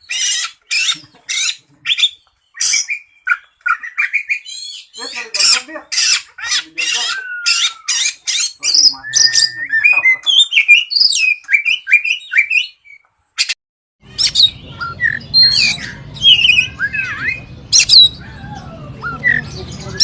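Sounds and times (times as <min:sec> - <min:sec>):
bird singing whistles and chirps: 0:00.0 - 0:20.0.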